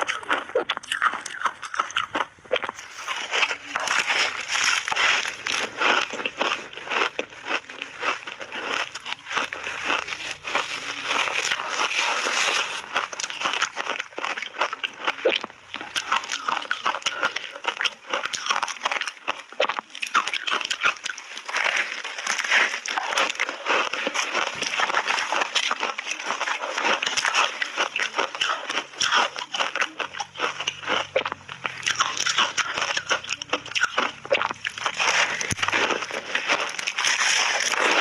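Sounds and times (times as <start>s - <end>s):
ice being chewed and crunched: 0.0s - 38.0s.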